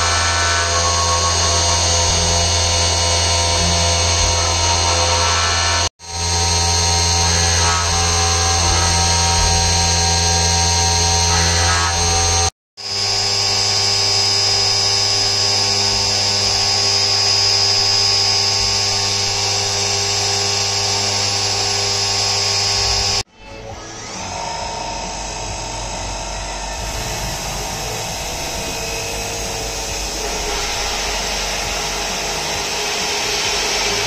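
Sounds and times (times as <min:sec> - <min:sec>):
cnc mill spindle whine: 0:00.0 - 0:34.0.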